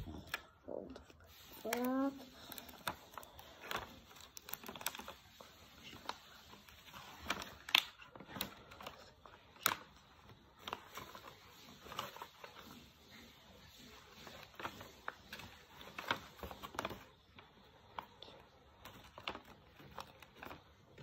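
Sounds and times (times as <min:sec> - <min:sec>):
paper rustling and creasing: 0:00.0 - 0:21.0.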